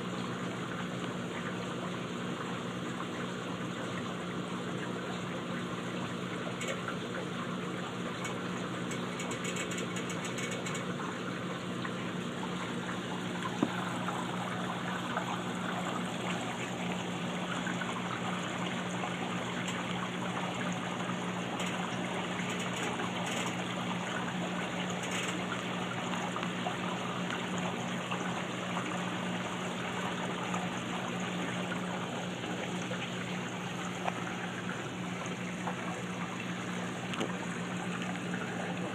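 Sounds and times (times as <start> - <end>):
aquarium filter water rushing: 0.0 - 38.9.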